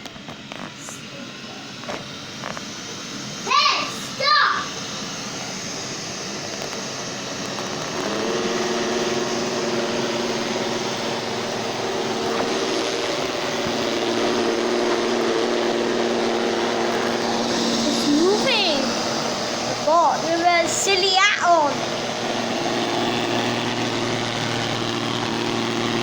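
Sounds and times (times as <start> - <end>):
motor hum: 0.0 - 26.0
robot vacuum cleaner rushing: 0.0 - 26.0.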